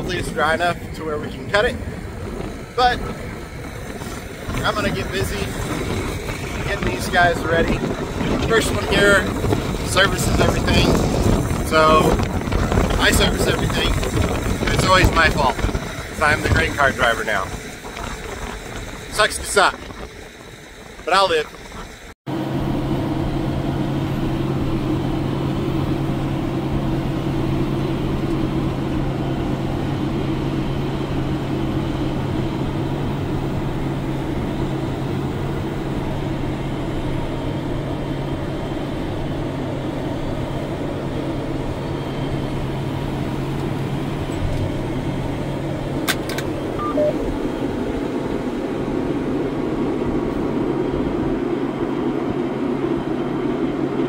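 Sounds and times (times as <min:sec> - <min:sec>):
low hum: 0:00.0 - 0:54.0
vehicle engine running: 0:00.0 - 0:54.0.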